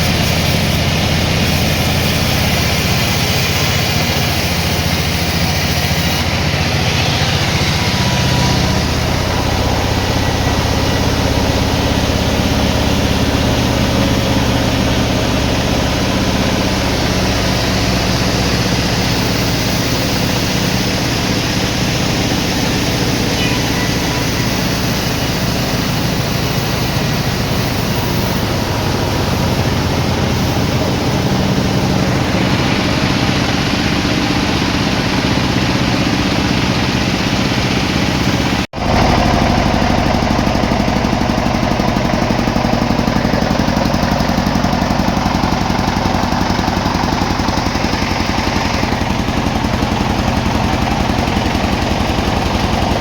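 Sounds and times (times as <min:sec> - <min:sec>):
sawmill engine pulsing: 0:00.0 - 0:53.0
steady machine sound: 0:00.0 - 0:53.0.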